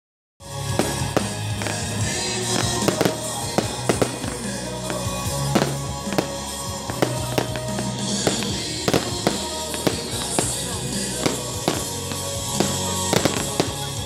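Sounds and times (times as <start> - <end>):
fireworks bangs and crackles: 0.4 - 14.0
music with held bass notes: 0.4 - 14.0.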